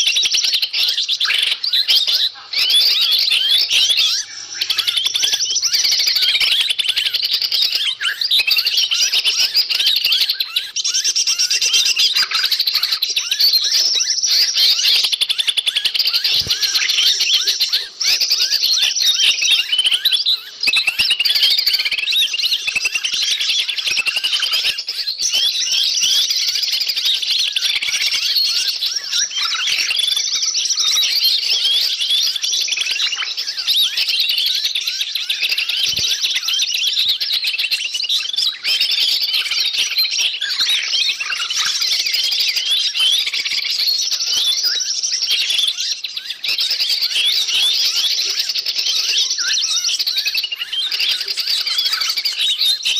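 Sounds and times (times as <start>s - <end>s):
many small birds twittering: 0.0s - 52.9s.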